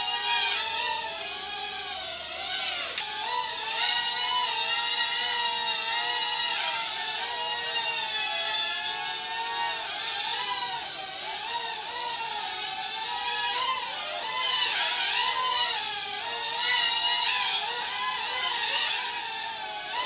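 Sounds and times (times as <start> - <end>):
quadcopter propellers whining: 0.0 - 20.0.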